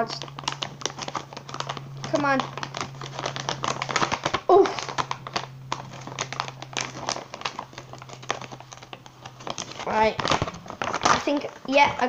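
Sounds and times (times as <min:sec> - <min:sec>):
plastic bag rustling and crackling: 0:00.0 - 0:12.0.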